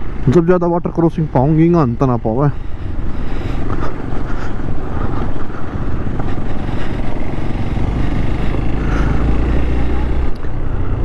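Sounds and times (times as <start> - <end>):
motorcycle engine running: 1.2 - 11.0
wind noise: 1.2 - 11.0.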